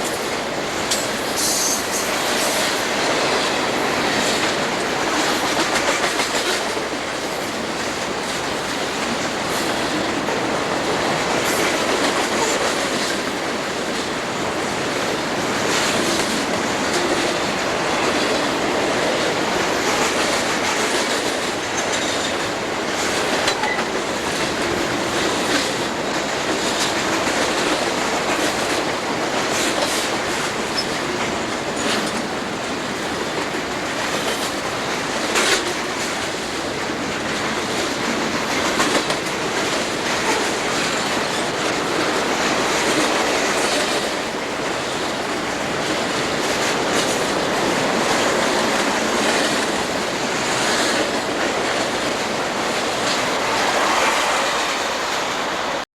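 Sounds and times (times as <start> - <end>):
wheels clicking over rail joints: 0.0 - 53.9
freight train rolling past: 0.0 - 55.8.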